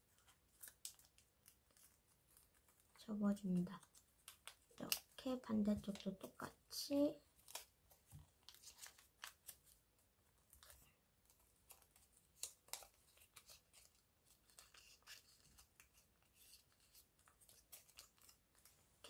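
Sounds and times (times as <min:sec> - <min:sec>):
paper being folded: 0:00.0 - 0:06.3, 0:07.3 - 0:18.8.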